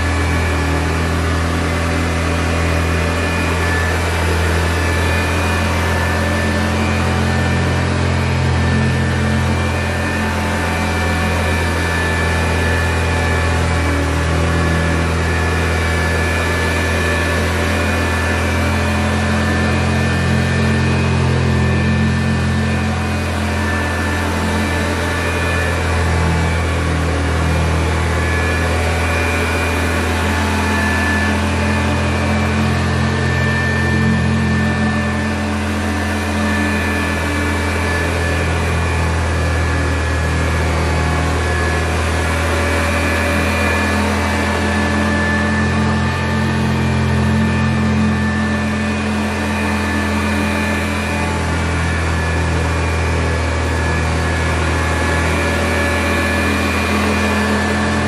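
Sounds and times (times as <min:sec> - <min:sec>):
vacuum cleaner motor humming: 0:00.0 - 0:58.0.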